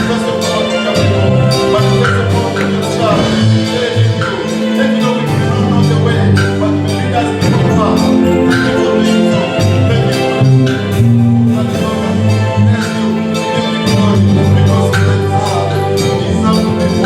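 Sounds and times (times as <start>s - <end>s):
upbeat gospel music: 0.0s - 17.0s.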